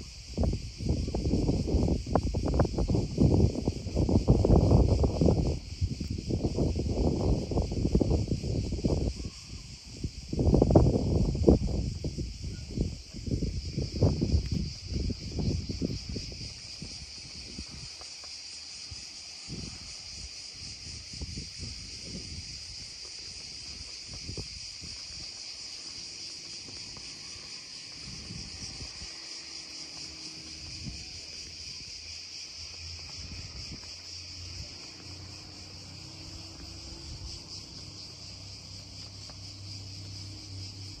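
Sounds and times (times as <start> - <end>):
high-pitched insect chorus: 0.0 - 41.0
wind buffeting microphone: 0.0 - 41.0.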